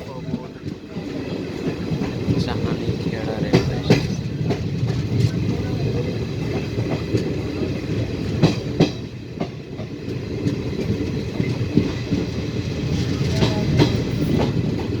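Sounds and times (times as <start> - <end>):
train rumbling: 0.0 - 15.0
wheels clacking over rail joints: 0.0 - 15.0.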